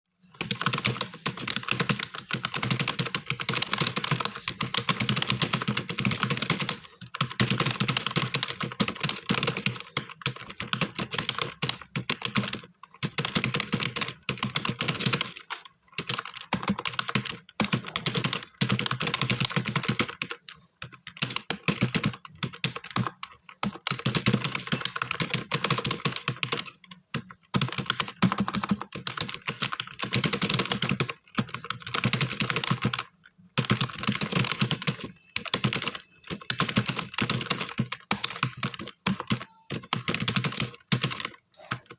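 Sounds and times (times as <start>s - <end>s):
fast keyboard typing: 0.4s - 41.9s.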